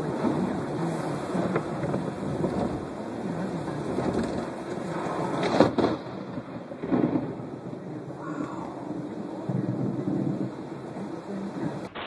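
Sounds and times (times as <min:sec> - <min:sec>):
steady rain: 0:00.0 - 0:12.0
tyres hissing on wet road: 0:00.0 - 0:12.0.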